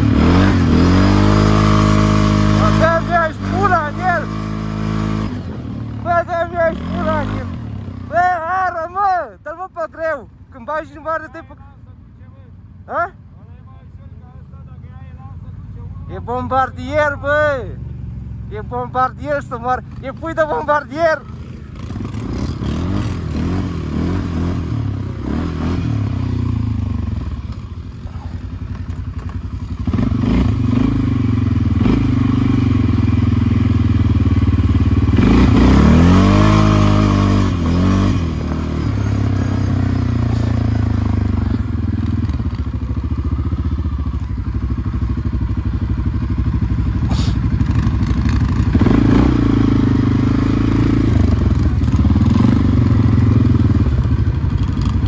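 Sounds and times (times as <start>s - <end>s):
atv engine revving: 0.0s - 9.3s, 15.5s - 55.0s.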